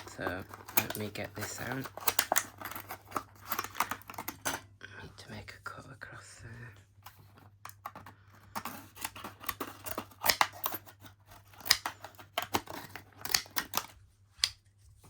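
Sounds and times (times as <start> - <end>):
scissors snipping packaging: 0.0 - 4.7, 7.0 - 14.6.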